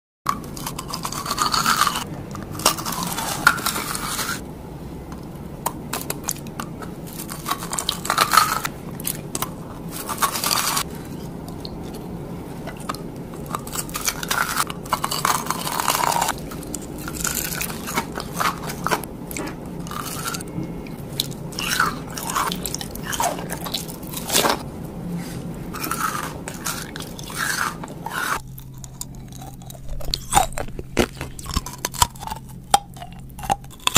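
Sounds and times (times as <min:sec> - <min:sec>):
chewing: 0:00.3 - 0:04.4, 0:05.1 - 0:24.6, 0:25.7 - 0:33.9
crunching jelly candy: 0:00.3 - 0:04.4, 0:05.2 - 0:24.6, 0:25.7 - 0:33.9.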